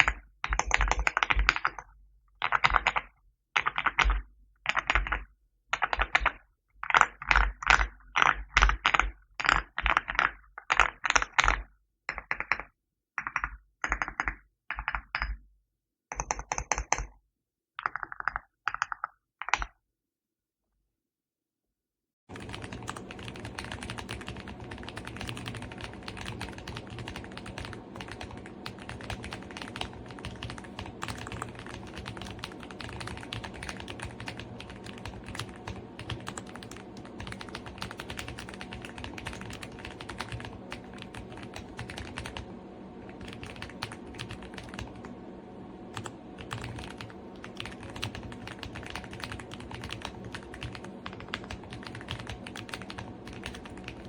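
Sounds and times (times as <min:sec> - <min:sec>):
mechanical keyboard typing: 0:00.0 - 0:15.4, 0:16.1 - 0:17.1, 0:17.8 - 0:19.7, 0:22.3 - 0:45.2, 0:45.9 - 0:54.0.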